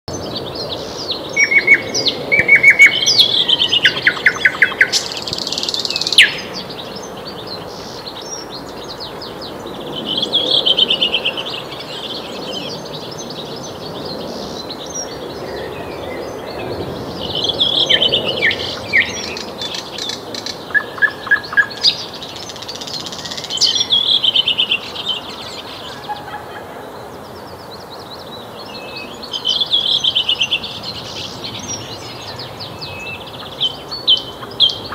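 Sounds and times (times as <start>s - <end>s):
nightingale singing: 0.1s - 34.9s.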